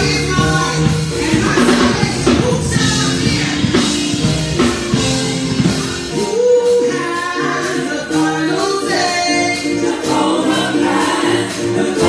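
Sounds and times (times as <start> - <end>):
backing singers: 0.0 - 12.0
band with drums: 0.0 - 12.0.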